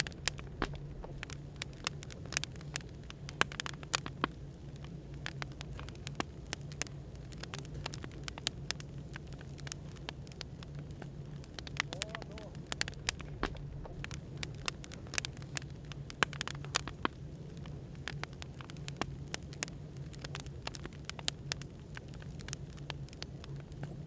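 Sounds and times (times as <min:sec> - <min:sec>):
low background hum: 0:00.0 - 0:24.0
wood fire crackling and popping: 0:00.0 - 0:24.0.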